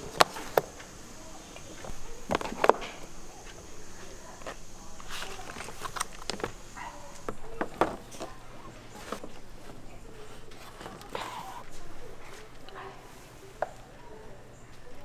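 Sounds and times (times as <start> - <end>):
hands handling food and plastic basket: 0.0 - 15.0.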